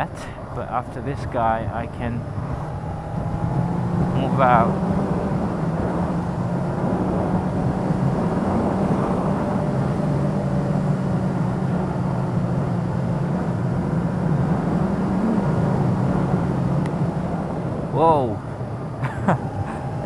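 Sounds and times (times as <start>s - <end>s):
wind and road noise: 0.0s - 20.0s.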